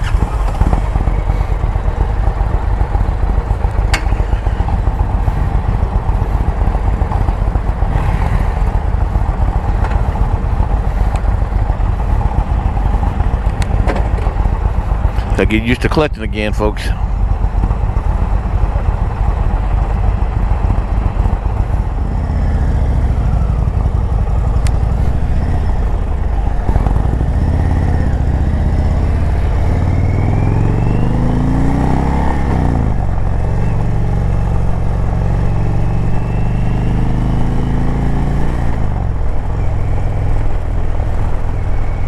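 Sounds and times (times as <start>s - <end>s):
motorcycle engine accelerating: 0.0s - 15.4s, 17.2s - 42.0s.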